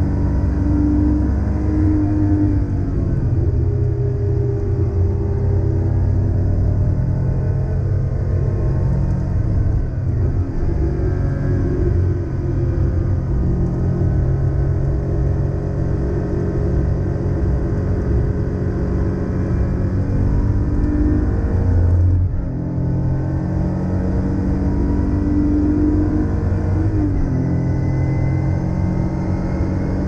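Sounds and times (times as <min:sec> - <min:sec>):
car engine running hard: 0:00.0 - 0:30.0.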